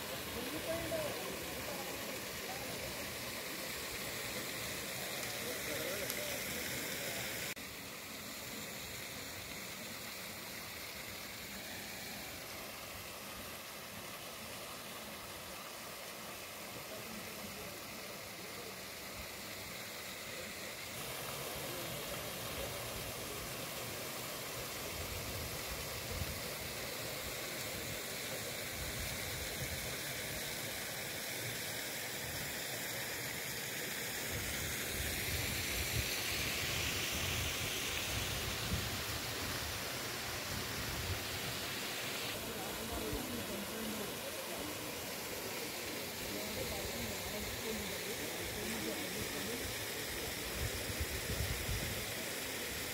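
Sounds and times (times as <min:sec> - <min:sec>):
water rushing over weir: 0:00.0 - 0:52.9.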